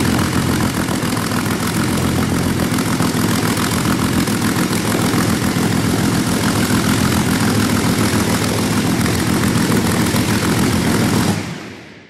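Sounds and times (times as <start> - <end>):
aero engine running loud: 0.0 - 12.0.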